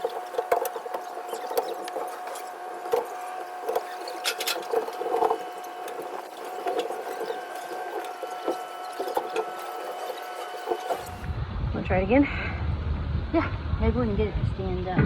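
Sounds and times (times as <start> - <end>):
steady high hum: 0.0 - 15.0.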